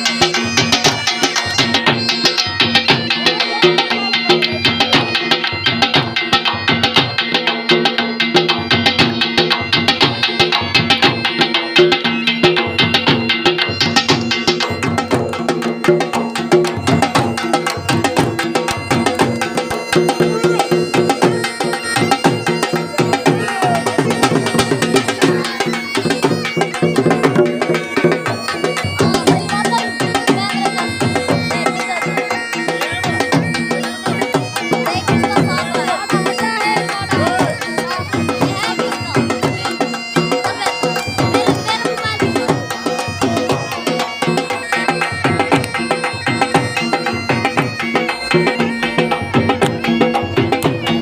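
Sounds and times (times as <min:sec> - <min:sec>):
drum beating dance rhythm: 0:00.0 - 0:51.0.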